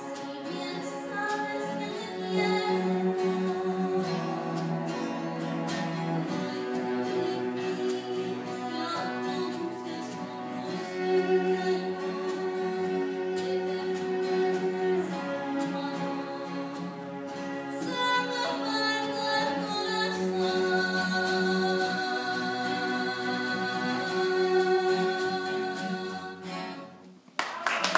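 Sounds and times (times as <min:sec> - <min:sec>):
person singing: 0:00.0 - 0:05.2, 0:05.8 - 0:26.8
acoustic instrumental accompaniment: 0:00.0 - 0:27.9.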